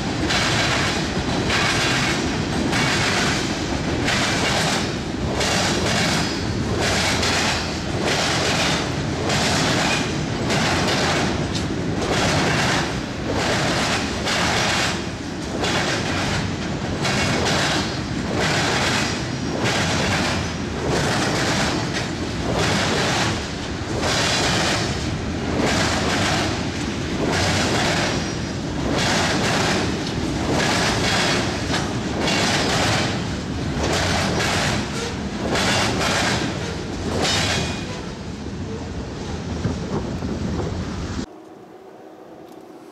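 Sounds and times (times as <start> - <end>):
train wheels clacking over rail joints: 0.0 - 38.2
freight train rumble: 0.0 - 42.9.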